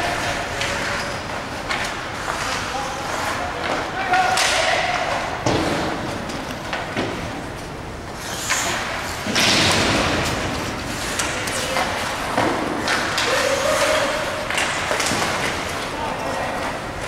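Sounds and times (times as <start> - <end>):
hockey sticks and puck clacking: 0.0 - 17.0
skates scraping ice: 0.0 - 17.0.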